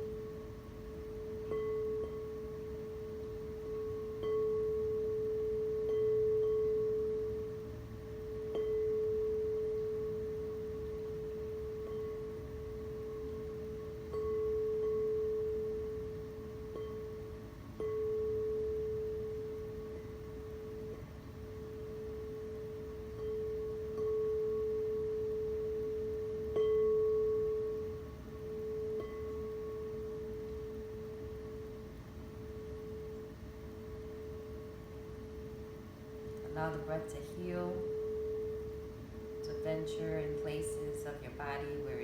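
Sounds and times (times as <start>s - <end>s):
singing bowl ringing: 0.0s - 42.0s.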